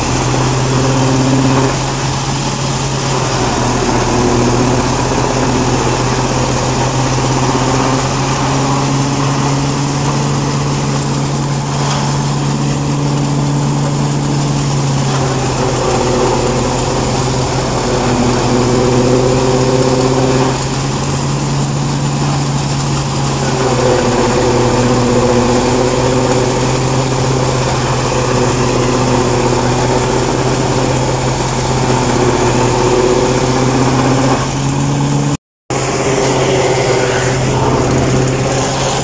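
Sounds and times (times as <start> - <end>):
machinery whine: 0.0 - 39.0
tractor engine hum: 0.0 - 39.0.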